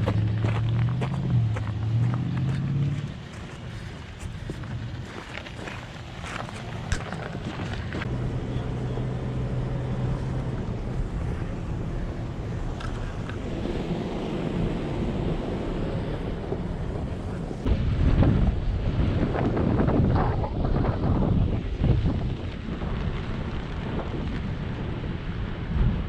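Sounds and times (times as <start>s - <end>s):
off-road vehicle engine running: 0.0s - 26.0s
wind buffeting microphone: 0.0s - 26.0s.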